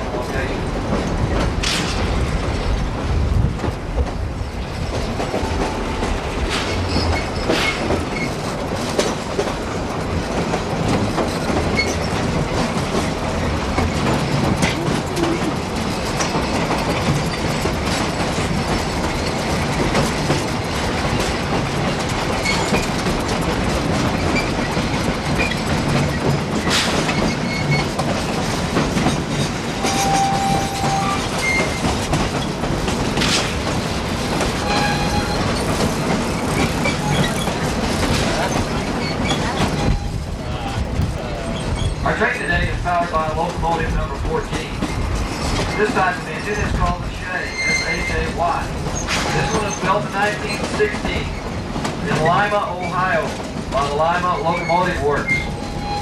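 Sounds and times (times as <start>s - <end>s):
train running rumble: 0.0s - 56.0s
wheels clicking over rail joints: 0.1s - 56.0s.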